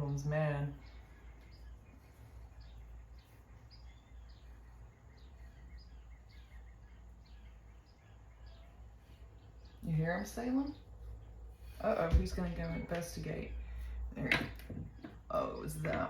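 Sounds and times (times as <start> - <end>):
faint bird chirping: 0.0 - 16.0
steady low hum: 0.0 - 16.0.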